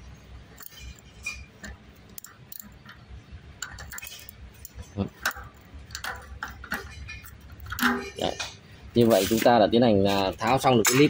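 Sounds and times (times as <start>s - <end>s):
metal parts knocking against tools: 0.5s - 8.6s, 10.1s - 11.0s
metal bicycle cogs clinking: 0.5s - 11.0s.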